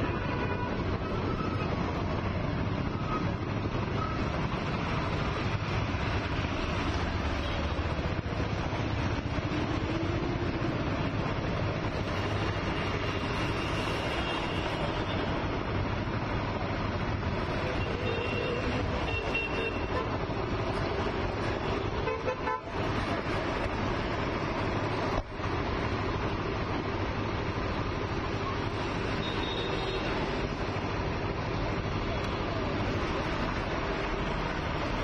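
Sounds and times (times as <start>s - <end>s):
traffic rumble: 0.0s - 35.0s.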